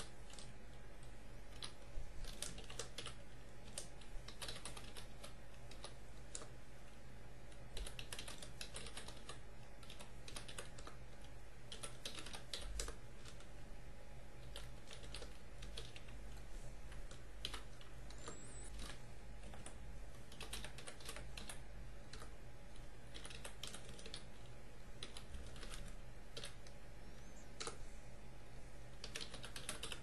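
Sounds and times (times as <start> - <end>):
keyboard typing: 0.0 - 6.6, 7.4 - 13.6, 14.3 - 27.8, 28.8 - 30.0
steady low hum: 0.0 - 30.0.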